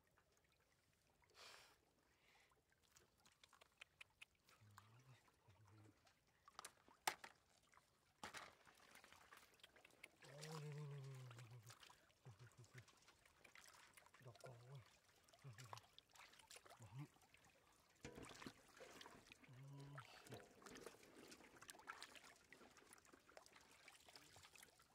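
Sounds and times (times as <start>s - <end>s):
light water splashing: 0.0s - 24.9s.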